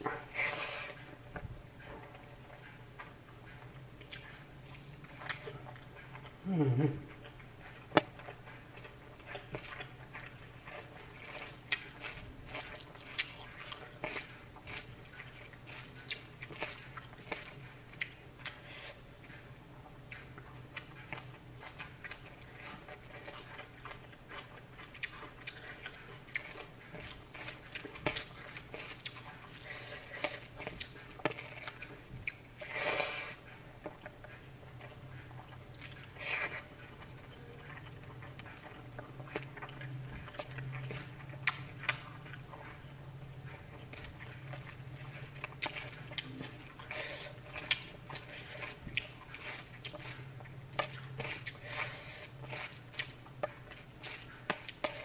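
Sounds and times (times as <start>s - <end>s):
food preparation clicks and crunching: 7.1s - 55.0s.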